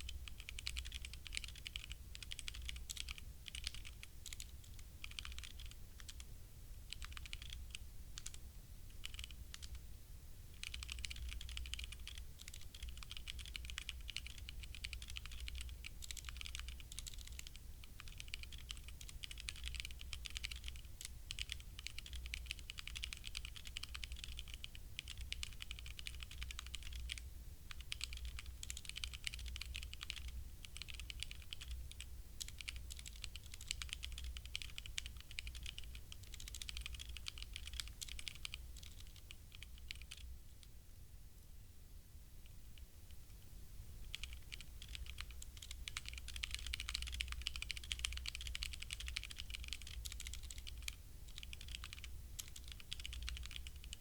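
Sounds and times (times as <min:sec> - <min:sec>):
mechanical keyboard typing: 0:00.0 - 0:06.2, 0:06.9 - 0:08.4, 0:09.0 - 0:09.8, 0:10.6 - 0:40.6, 0:44.0 - 0:54.0.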